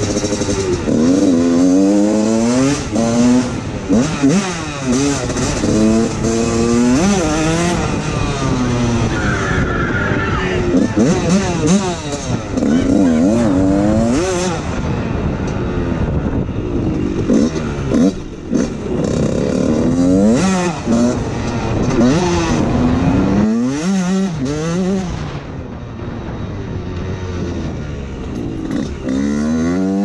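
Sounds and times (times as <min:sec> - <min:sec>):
dirt bike engine revving: 0:00.0 - 0:25.8, 0:27.1 - 0:30.0.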